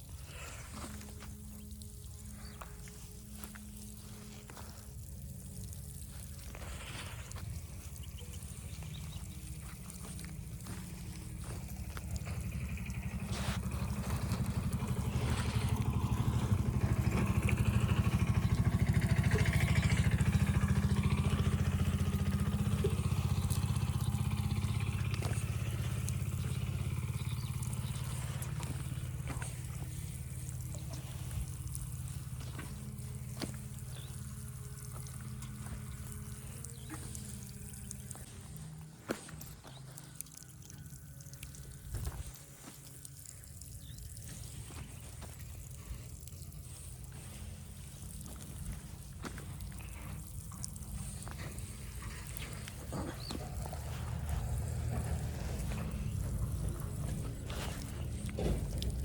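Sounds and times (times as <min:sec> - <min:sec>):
small engine puttering: 0:00.0 - 0:59.0.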